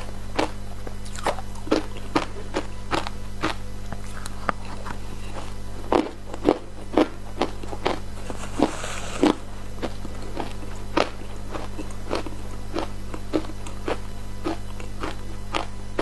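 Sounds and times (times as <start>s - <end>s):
low electrical hum: 0.0s - 16.0s
ice being chewed: 0.4s - 16.0s.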